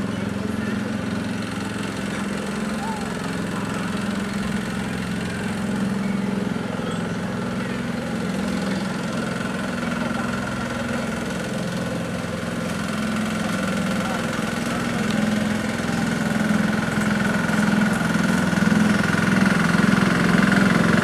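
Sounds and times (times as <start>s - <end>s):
engine humming with faint whine: 0.0s - 21.0s.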